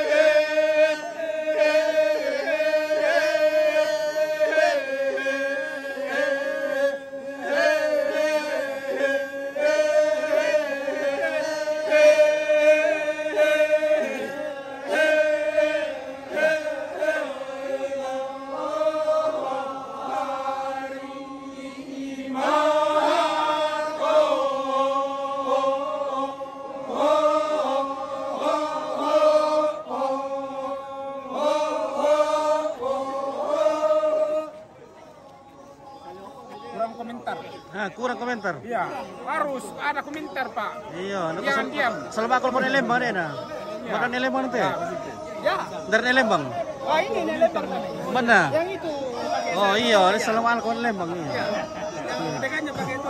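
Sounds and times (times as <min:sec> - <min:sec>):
group of voices chanting in unison: 0:00.0 - 0:53.0.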